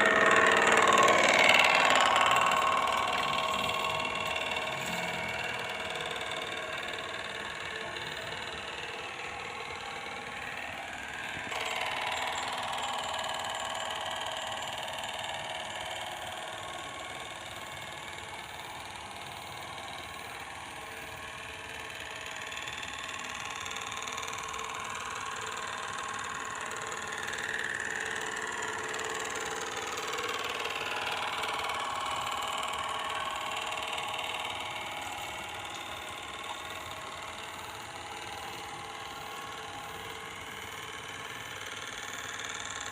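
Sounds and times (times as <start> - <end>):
small motor whining: 0.0 - 42.9.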